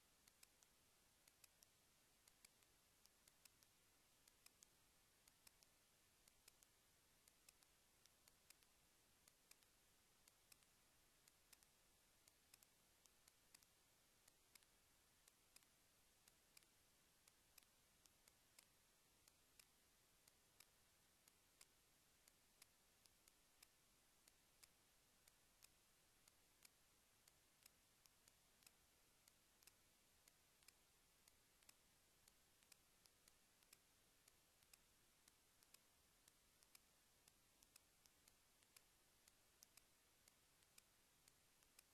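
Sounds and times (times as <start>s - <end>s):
faint sharp clicks: 0.0s - 41.9s.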